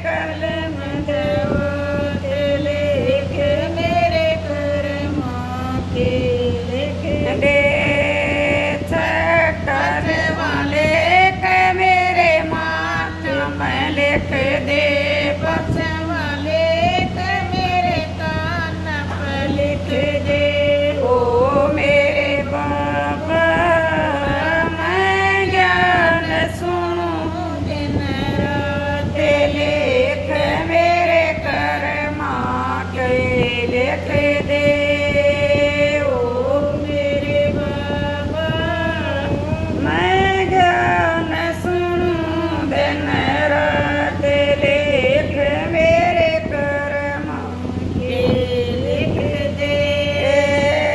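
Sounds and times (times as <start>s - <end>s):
steady low hum: 0.0s - 50.9s
woman singing devotional song: 0.0s - 50.9s.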